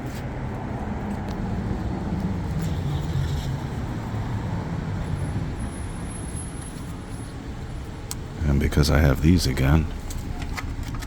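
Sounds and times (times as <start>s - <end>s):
traffic rumbling: 0.0s - 11.0s.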